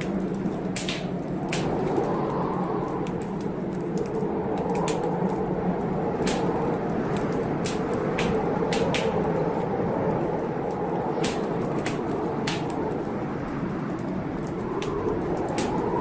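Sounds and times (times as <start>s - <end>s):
rain rushing: 0.0s - 16.0s
wood fire crackling and popping: 0.0s - 16.0s.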